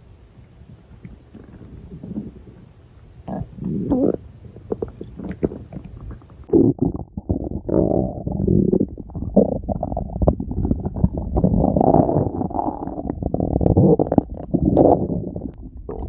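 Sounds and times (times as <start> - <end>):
stomach growling: 0.5 - 16.0.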